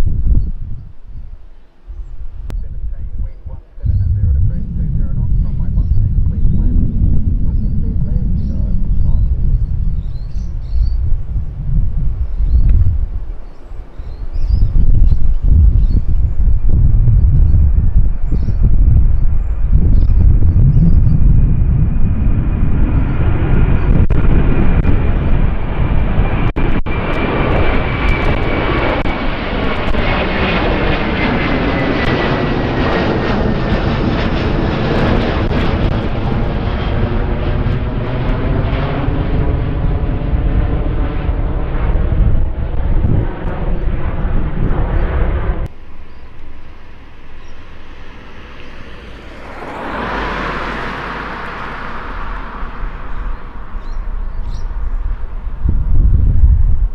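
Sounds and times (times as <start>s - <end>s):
distant jet sound: 1.4s - 18.5s, 19.1s - 56.0s
jet engines roaring: 1.4s - 56.9s.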